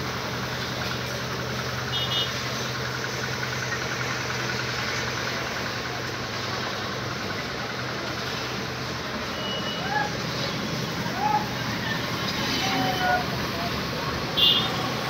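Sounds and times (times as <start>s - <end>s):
street traffic noise: 0.0s - 15.0s
vehicle engine idling: 0.0s - 15.0s.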